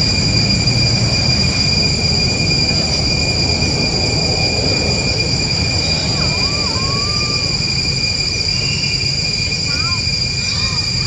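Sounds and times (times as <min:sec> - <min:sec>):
high-pitched insect drone: 0:00.0 - 0:11.0
low rumbling noise: 0:00.0 - 0:11.0.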